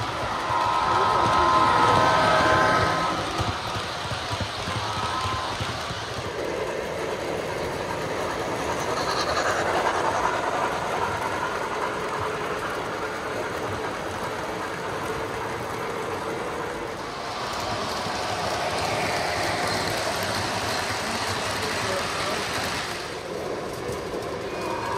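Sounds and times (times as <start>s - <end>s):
model train wheels rumbling: 0.0s - 24.9s.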